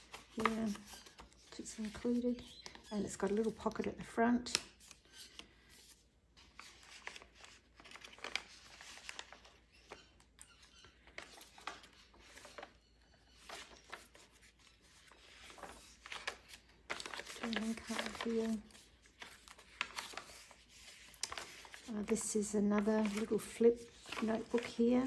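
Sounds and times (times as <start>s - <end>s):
paper pages rustling and flicking: 0.0s - 3.9s, 4.5s - 25.0s.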